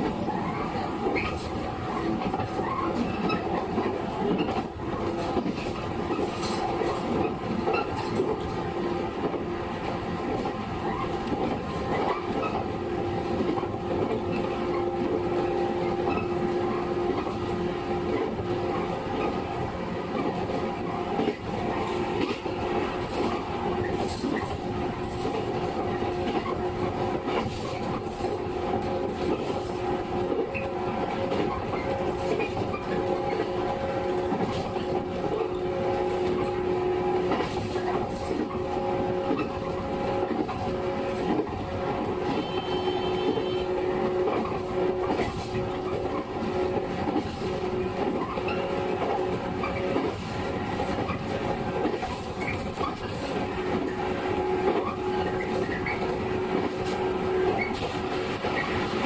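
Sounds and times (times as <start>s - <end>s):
rail-joint clacks: 0.0s - 59.0s
train motor hum: 0.0s - 59.0s.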